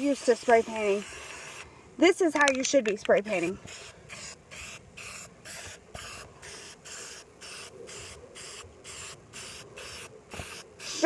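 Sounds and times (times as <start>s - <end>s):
aerosol spray can hissing: 0.0s - 1.6s, 3.3s - 11.0s.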